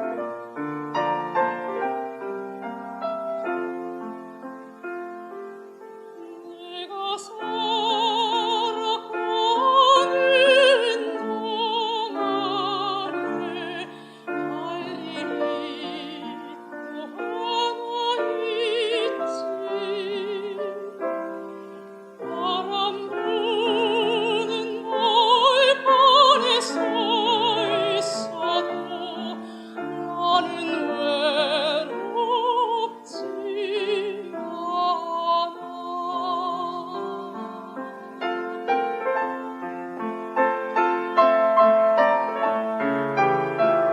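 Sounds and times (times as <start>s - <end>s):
piano accompaniment: 0.0s - 43.9s.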